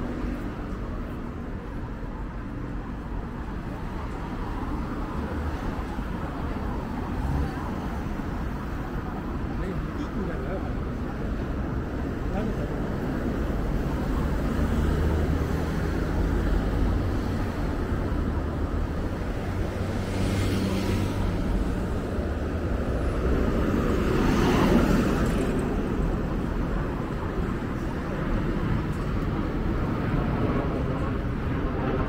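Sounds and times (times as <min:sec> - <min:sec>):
steady engine hum: 0:00.0 - 0:32.0
vehicles passing: 0:00.0 - 0:32.0.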